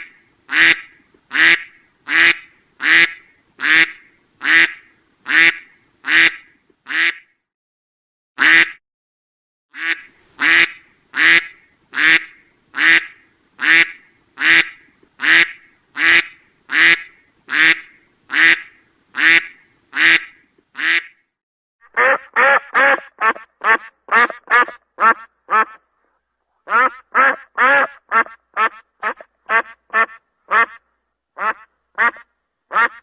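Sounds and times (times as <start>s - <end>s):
duck quacking: 0.0s - 7.3s, 8.4s - 8.8s, 9.8s - 21.2s, 21.8s - 25.8s, 26.7s - 30.8s, 31.4s - 33.0s.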